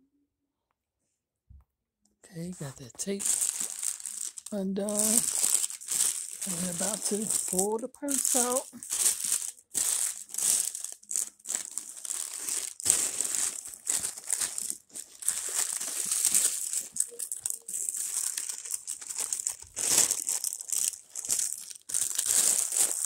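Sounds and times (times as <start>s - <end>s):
plastic wrapping crinkling: 2.3s - 23.0s.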